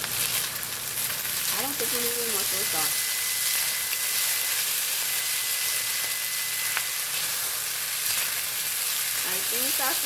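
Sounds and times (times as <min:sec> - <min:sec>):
fried rice sizzling in a pan: 0:00.0 - 0:10.0.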